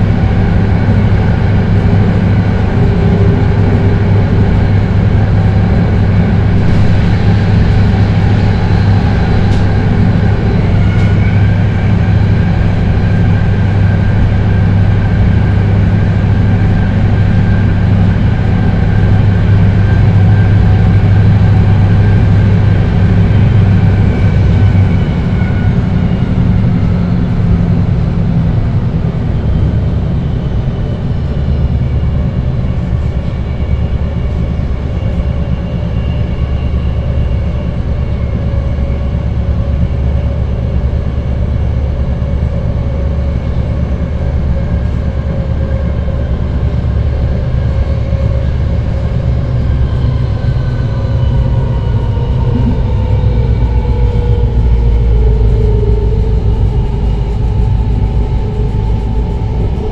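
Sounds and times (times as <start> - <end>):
propulsion whine: 0.0 - 59.9
train wheels and motors rumbling: 0.0 - 59.9.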